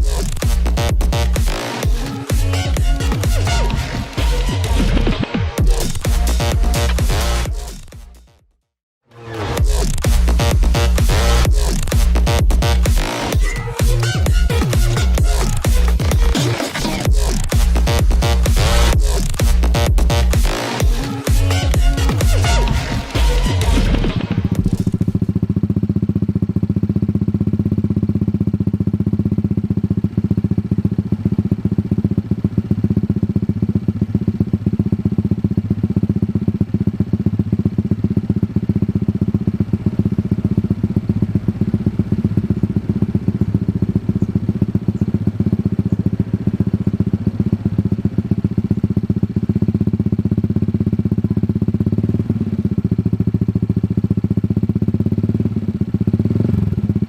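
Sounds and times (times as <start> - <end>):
motorcycle engine idling: 0.0 - 8.4, 9.5 - 57.0.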